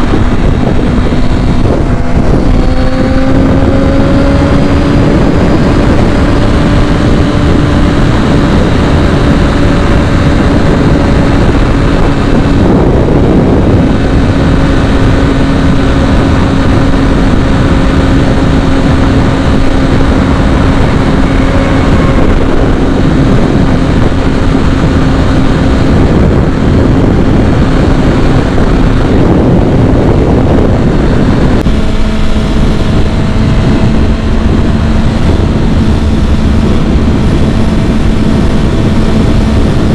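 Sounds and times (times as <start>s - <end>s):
rush of wind noise: 0.0s - 39.9s
sport bike engine running: 0.0s - 39.9s.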